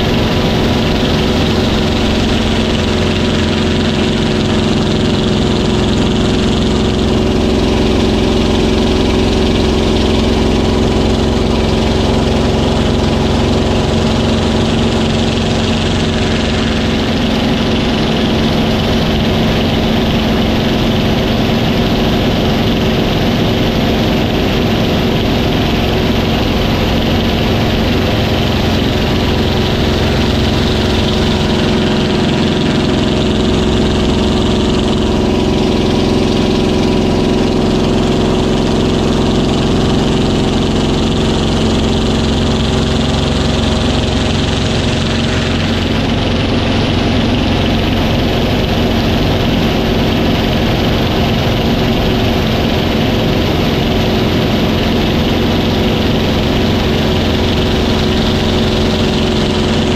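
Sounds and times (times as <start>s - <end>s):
cockpit air noise: 0.0s - 59.9s
propeller aircraft engine running: 0.0s - 59.9s.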